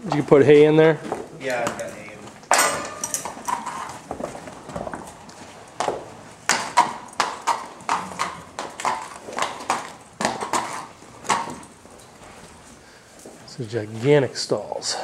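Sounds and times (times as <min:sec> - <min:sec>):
horse hooves clip-clopping on concrete: 0:00.0 - 0:15.0.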